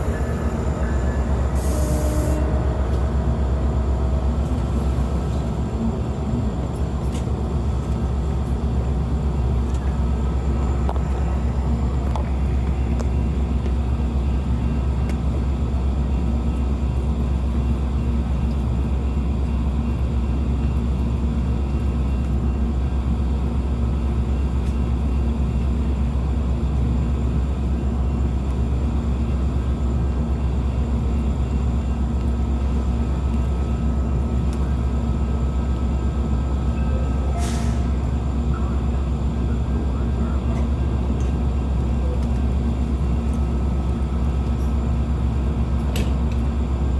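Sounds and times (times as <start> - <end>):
diesel locomotive idling: 0.0 - 46.9.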